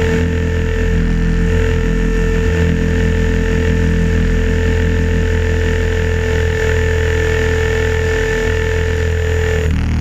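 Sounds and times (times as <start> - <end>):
rc helicopter motor and rotor whine: 0.0 - 10.0.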